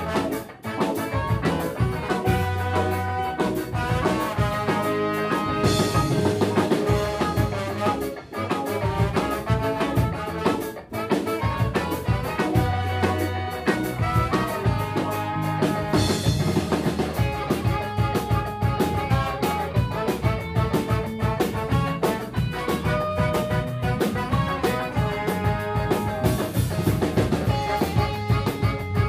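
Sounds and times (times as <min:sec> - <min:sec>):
drum kit: 0:00.0 - 0:29.0
guitar: 0:00.0 - 0:29.0.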